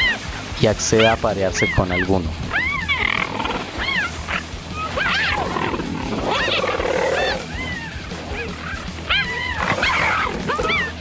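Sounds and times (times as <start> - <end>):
cheetahs high-pitched calls: 0.0 - 0.3, 1.0 - 11.0
low rough cheetah call: 1.9 - 11.0.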